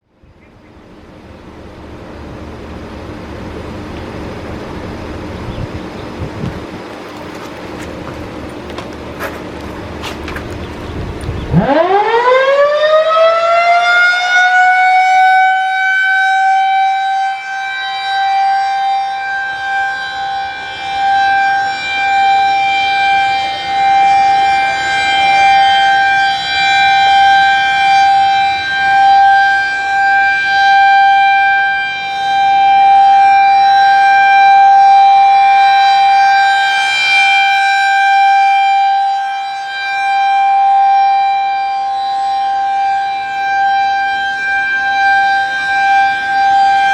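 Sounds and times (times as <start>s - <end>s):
outdoor warning siren: 0.0s - 46.9s.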